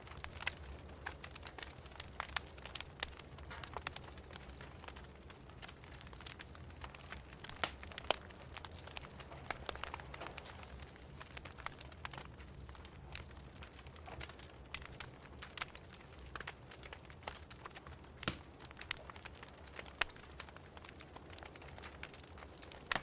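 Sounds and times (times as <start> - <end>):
wood fire popping and snapping: 0.0 - 23.0.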